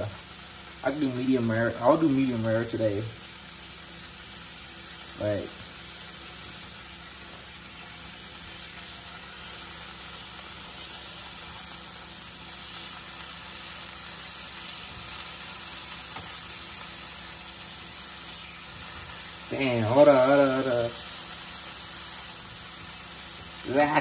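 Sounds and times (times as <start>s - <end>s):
steak sizzling in a frying pan: 0.0s - 24.0s.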